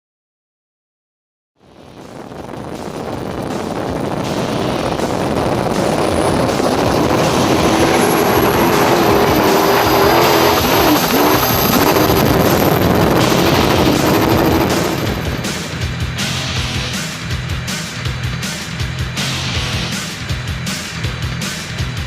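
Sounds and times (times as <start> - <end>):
high whine rising in pitch: 1.6 - 20.2
loud engine noise: 1.6 - 22.0.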